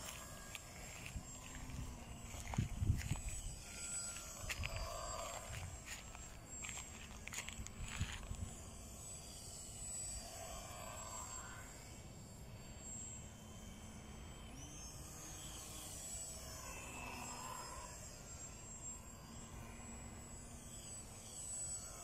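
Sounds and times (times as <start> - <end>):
model airplane motor whine: 0.0 - 22.0.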